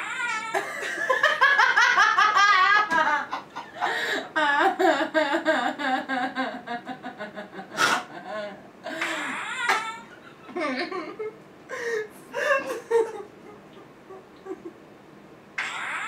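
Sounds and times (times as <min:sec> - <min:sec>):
women laughing: 0:00.5 - 0:09.0, 0:10.1 - 0:14.8.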